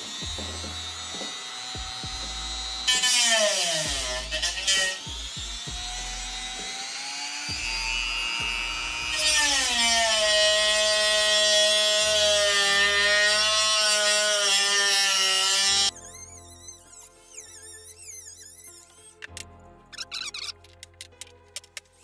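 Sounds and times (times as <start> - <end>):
rotary tool whining: 0.0 - 20.6
rotary tool cutting plastic pipe: 0.0 - 22.0.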